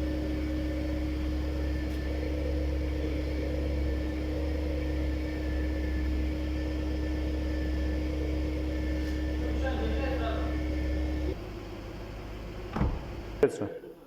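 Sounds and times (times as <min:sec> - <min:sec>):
air compressor humming: 0:00.0 - 0:13.5.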